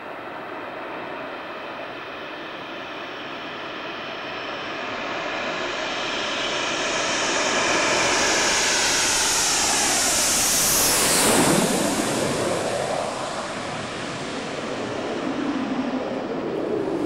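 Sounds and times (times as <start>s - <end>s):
jet aircraft passing low: 0.1s - 17.0s.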